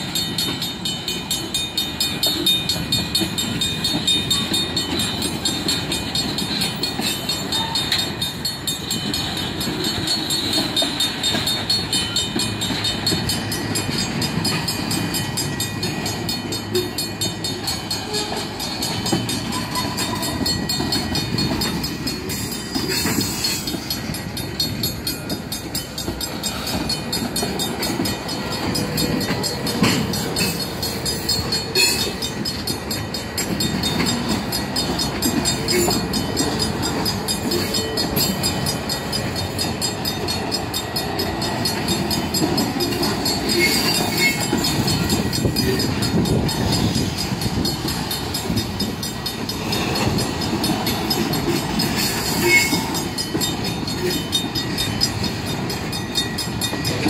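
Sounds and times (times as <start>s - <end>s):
crossing bell ringing: 0.0s - 57.0s
freight train wheels rumbling and clacking: 0.0s - 57.0s.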